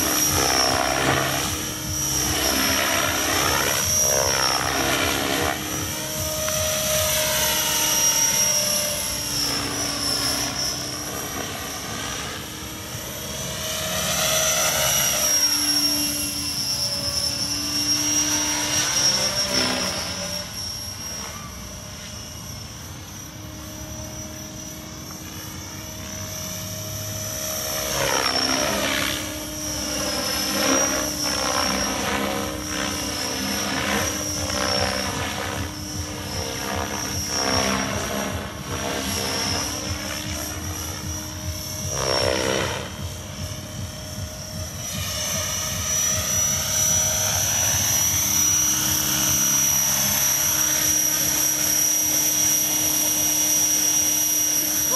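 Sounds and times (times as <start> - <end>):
model helicopter whine and rotor: 0.0 - 54.9.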